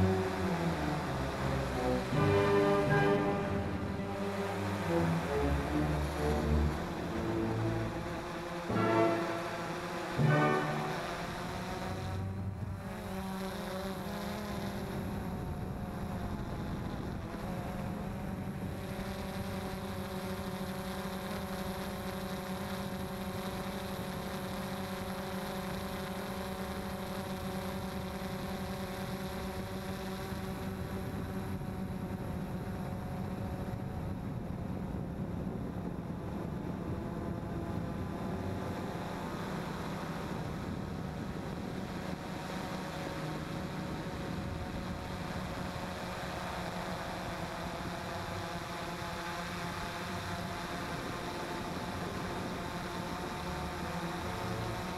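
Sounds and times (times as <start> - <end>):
quadcopter motors humming: 0.0 - 54.9.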